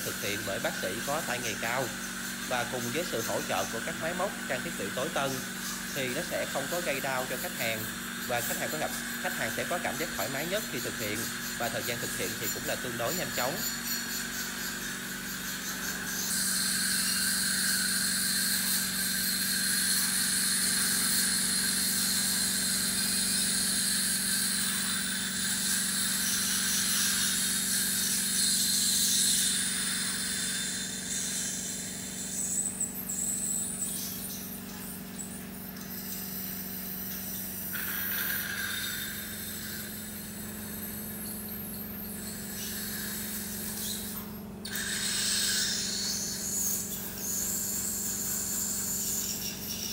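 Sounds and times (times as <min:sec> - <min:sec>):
dental suction hissing: 0:00.0 - 0:49.9
steady low hum: 0:00.0 - 0:49.9.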